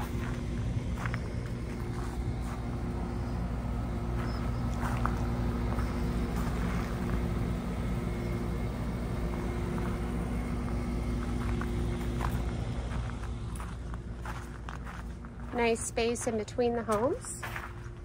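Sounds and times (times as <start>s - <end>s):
air conditioning unit humming: 0.0s - 18.0s.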